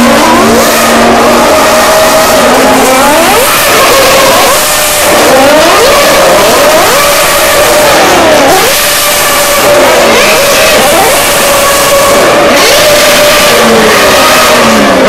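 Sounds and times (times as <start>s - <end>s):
racing car engines revving past: 0.0s - 15.0s.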